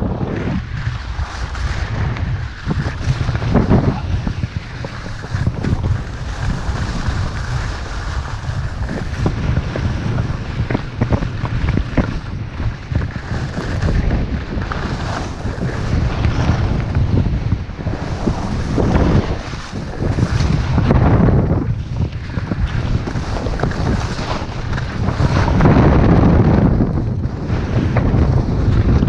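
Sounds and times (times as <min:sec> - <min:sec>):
skis scraping on snow: 0:00.0 - 0:29.0
wind buffeting microphone: 0:00.0 - 0:29.0.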